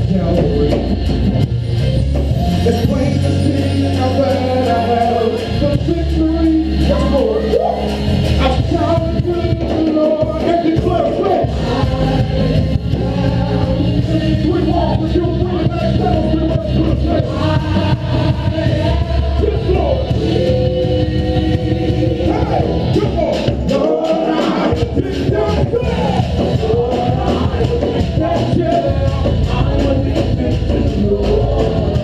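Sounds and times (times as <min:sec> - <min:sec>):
music with singing voices: 0:00.0 - 0:32.0.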